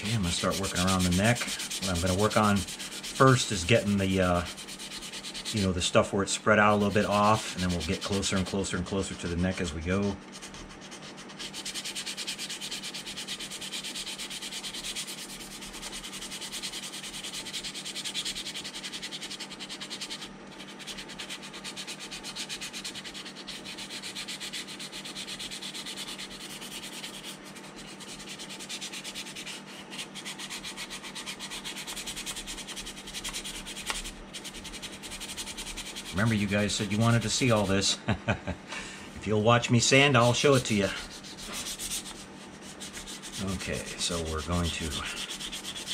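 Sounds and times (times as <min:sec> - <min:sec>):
sandpaper rubbing on plastic: 0:00.0 - 0:37.9, 0:40.1 - 0:45.9.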